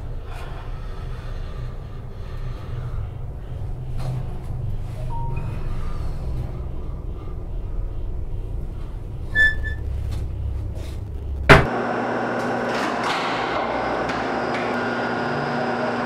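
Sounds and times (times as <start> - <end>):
elevator mechanical hum: 0.0 - 16.0.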